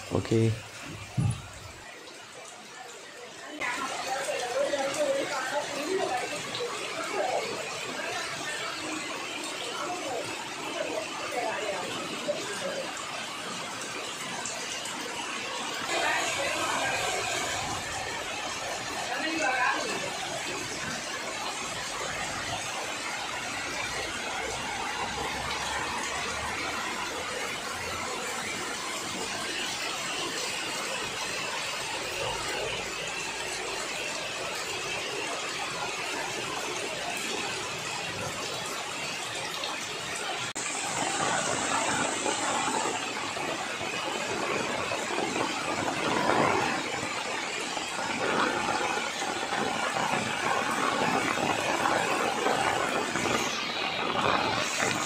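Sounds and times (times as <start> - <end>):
heavy rain on foliage and tarpaulins: 0.0 - 55.0.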